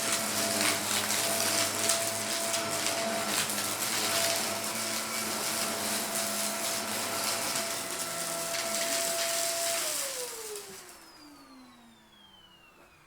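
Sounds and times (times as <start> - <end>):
vacuum cleaner running: 0.0 - 13.0
vacuum motor spinning down: 0.0 - 13.0.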